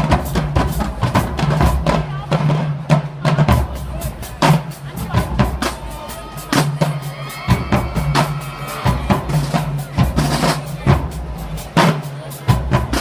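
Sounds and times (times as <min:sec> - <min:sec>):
drumline playing: 0:00.0 - 0:13.0.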